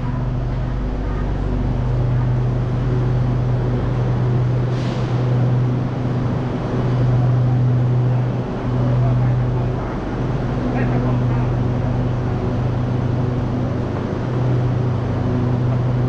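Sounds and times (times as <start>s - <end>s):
even rumbling noise: 0.0s - 16.0s
low mechanical hum: 0.0s - 16.0s.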